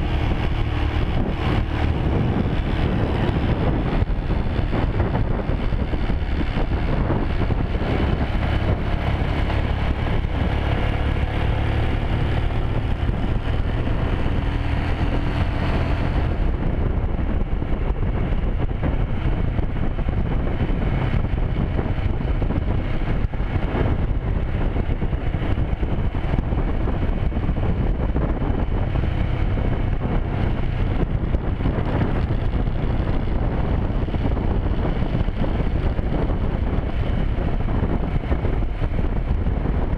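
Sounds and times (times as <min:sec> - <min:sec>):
motorcycle engine and road rumble: 0:00.0 - 0:39.9
wind rushing over microphone: 0:00.0 - 0:39.9.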